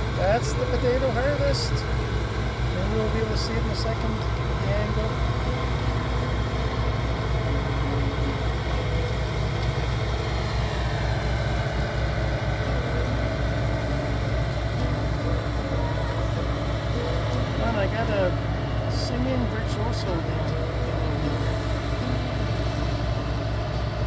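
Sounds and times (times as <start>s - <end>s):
machinery engines droning: 0.0s - 24.0s.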